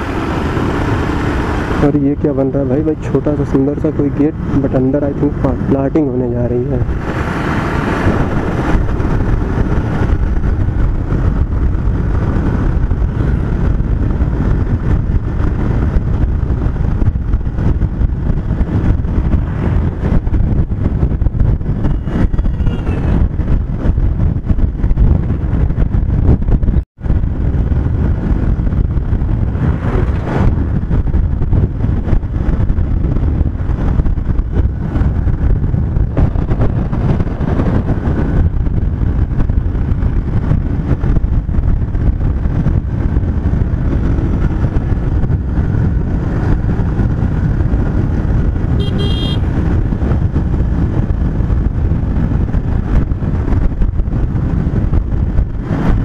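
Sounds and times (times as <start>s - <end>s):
motorcycle engine: 0.0s - 2.0s, 6.8s - 56.0s
road noise: 0.0s - 56.0s
wind rushing over microphone: 0.0s - 56.0s.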